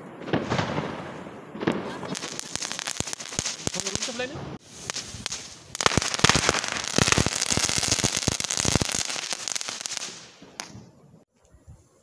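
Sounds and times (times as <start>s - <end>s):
firework crackling pops and bangs: 0.0s - 10.9s.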